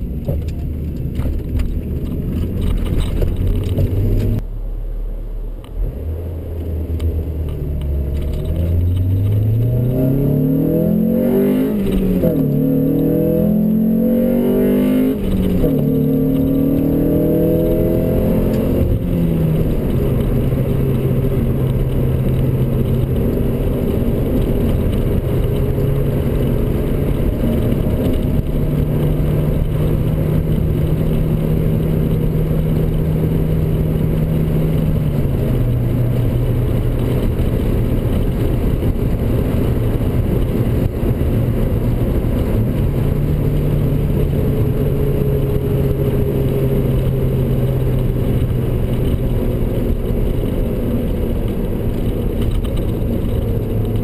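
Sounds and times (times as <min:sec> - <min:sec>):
car engine drone from inside cabin: 0:00.0 - 0:54.0
road and tyre rumble: 0:00.0 - 0:54.0.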